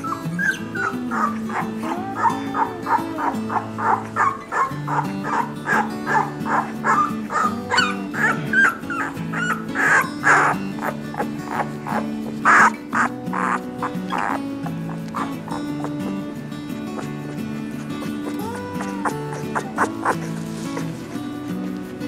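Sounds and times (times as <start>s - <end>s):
background music with low notes: 0.0s - 22.0s
puppies squeaking and whimpering: 0.0s - 22.0s.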